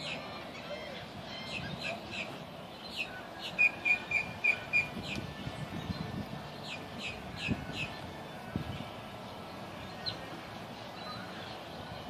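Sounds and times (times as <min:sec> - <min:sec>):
songbirds calling: 0:00.0 - 0:12.0.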